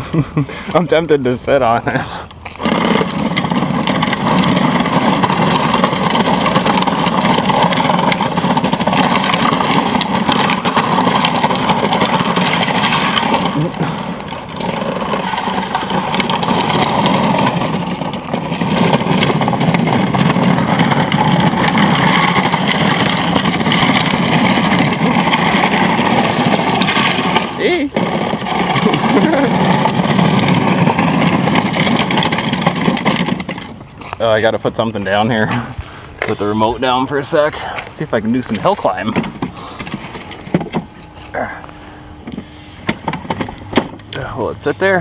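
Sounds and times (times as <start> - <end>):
plastic wheels rumbling on asphalt: 0.0 - 45.0
electric motor and gears running: 0.8 - 45.0.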